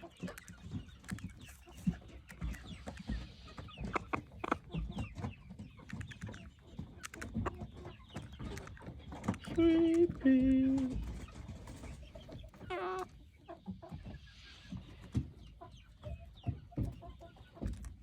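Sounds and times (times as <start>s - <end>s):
chickens clucking softly: 0.0s - 18.0s.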